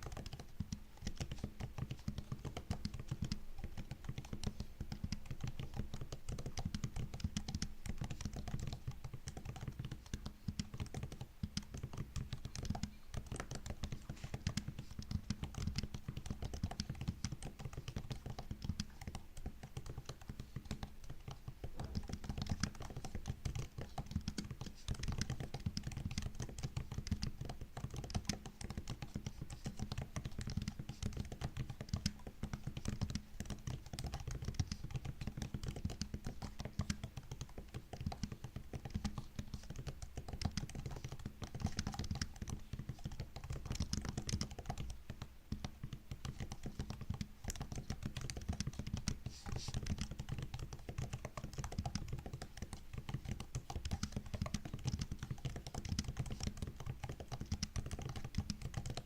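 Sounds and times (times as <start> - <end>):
fast typing on laptop keyboard: 0.0 - 59.0.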